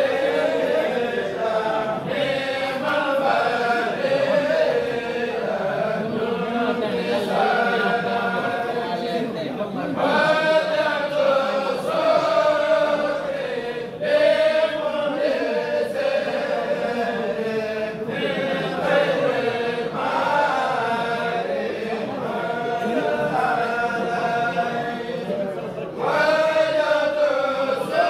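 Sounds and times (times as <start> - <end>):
men chanting together: 0.0 - 28.0.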